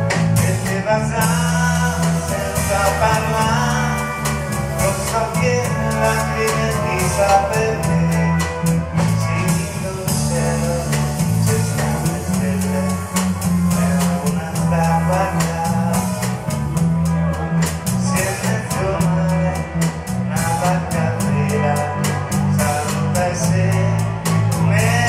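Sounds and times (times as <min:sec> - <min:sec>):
bass guitar: 0:00.0 - 0:25.0
drum kit beat: 0:00.0 - 0:25.0
electric guitars: 0:00.0 - 0:25.0.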